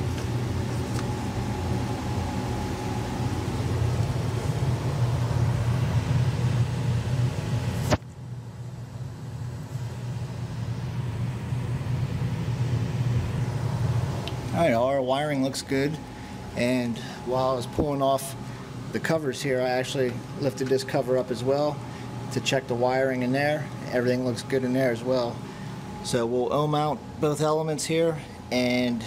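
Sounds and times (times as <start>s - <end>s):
machinery rumble and hum: 0.0s - 29.0s.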